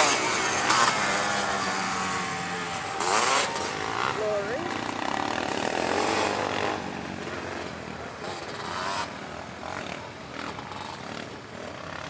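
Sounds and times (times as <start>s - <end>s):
quad engines revving: 0.0s - 12.0s.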